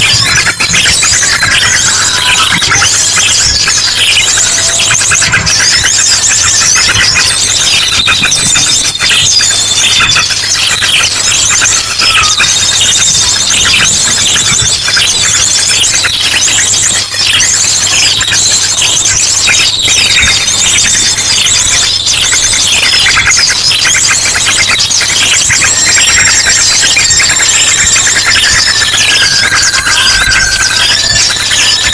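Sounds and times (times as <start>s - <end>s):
chorus of small birds chirping: 0.0s - 31.9s
drongo calls: 0.0s - 31.9s.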